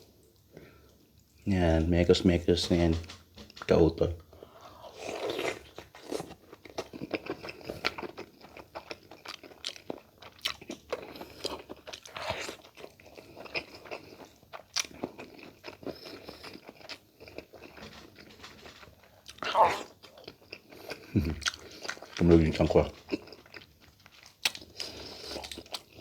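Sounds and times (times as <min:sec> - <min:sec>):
person chewing and crunching: 0:03.5 - 0:26.0.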